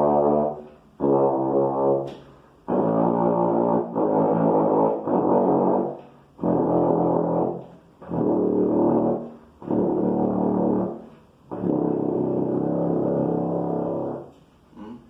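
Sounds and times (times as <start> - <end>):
trombone playing low notes: 0.0 - 14.4.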